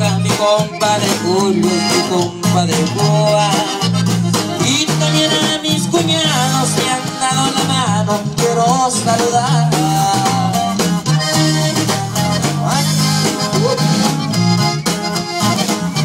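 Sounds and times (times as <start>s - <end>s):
man singing into a microphone: 0.0s - 11.4s, 12.3s - 14.0s
accordion melody: 0.0s - 16.0s
bass and drums: 0.0s - 16.0s.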